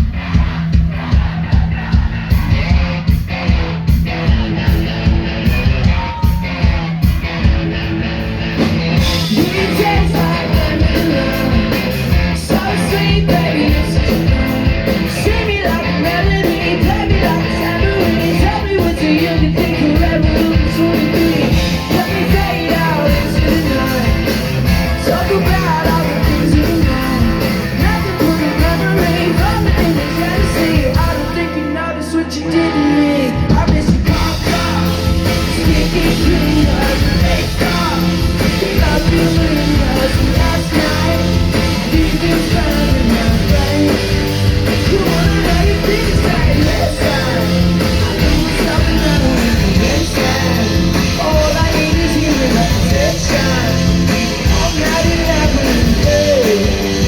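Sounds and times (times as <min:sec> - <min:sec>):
drums: 0:00.0 - 0:57.0
live rock band playing: 0:00.0 - 0:57.0
electric guitar: 0:02.1 - 0:57.0
person singing: 0:09.2 - 0:14.4, 0:15.0 - 0:57.0.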